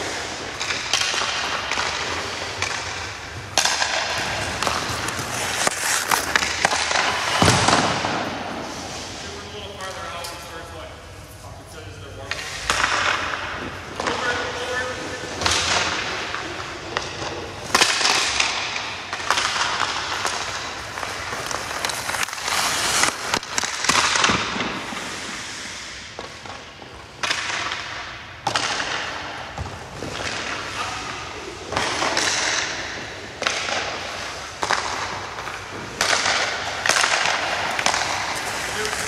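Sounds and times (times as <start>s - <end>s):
stick and puck cracks: 0.0s - 8.4s, 12.3s - 39.0s
skate blades scraping ice: 0.0s - 10.0s, 12.3s - 39.0s.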